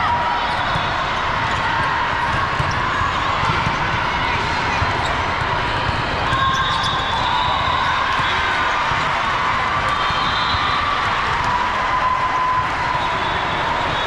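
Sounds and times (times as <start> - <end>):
hubbub of voices: 0.0 - 14.0.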